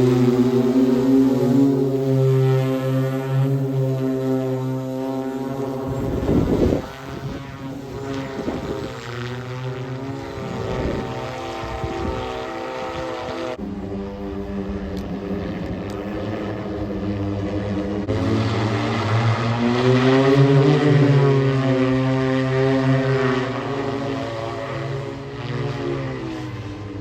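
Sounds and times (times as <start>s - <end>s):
drone propellers humming: 0.0s - 27.0s.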